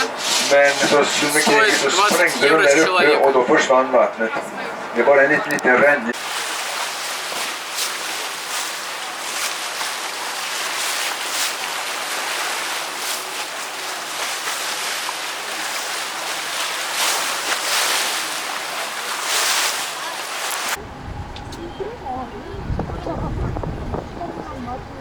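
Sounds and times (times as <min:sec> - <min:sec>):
water rushing past boat: 0:00.0 - 0:25.0
wind: 0:00.0 - 0:25.0.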